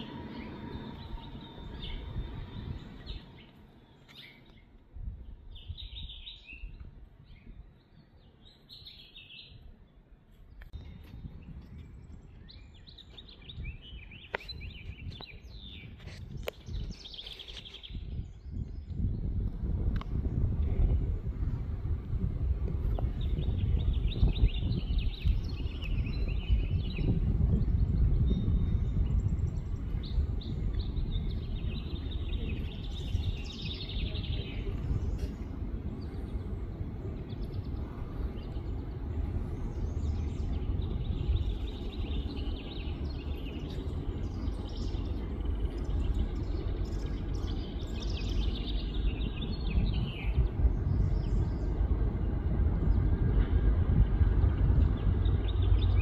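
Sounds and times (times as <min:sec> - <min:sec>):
birds chirping: 0:00.0 - 0:56.0
constant low rumbling: 0:00.0 - 0:56.0.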